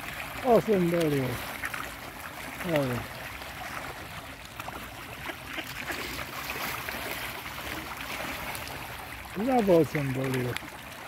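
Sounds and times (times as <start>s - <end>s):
small splashes: 0.0s - 11.0s
water splashing and lapping: 0.0s - 11.0s.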